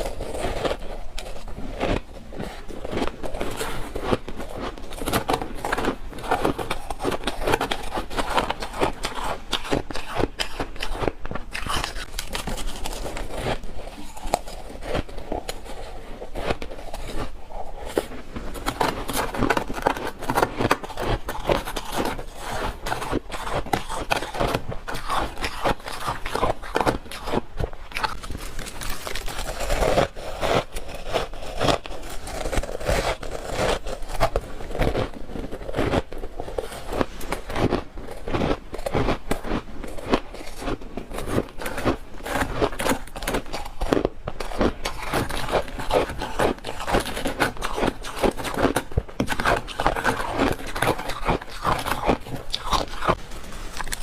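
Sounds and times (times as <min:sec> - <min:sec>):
frost crunching as chewed: 0:00.0 - 0:54.0.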